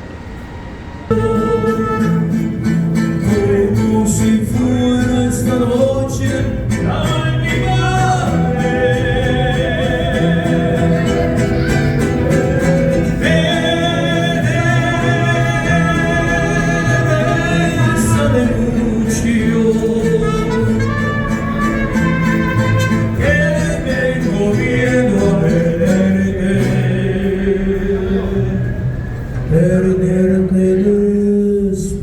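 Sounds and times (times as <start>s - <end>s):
steady bass line: 1.1s - 30.2s
song with singing voice: 1.1s - 32.0s.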